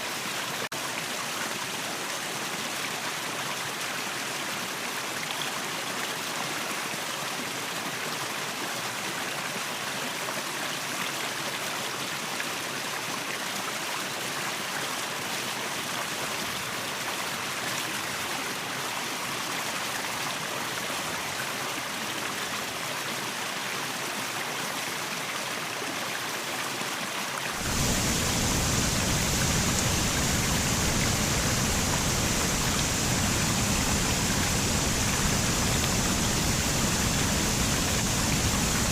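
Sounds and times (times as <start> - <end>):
waterfall and stream rushing: 0.0 - 38.9.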